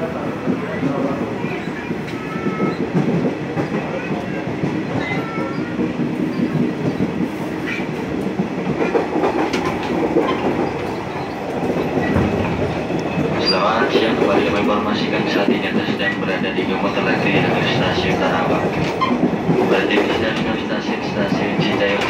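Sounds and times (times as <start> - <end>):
train wheels rumbling on rail: 0.0 - 22.0
clacks over rail joints: 0.4 - 22.0.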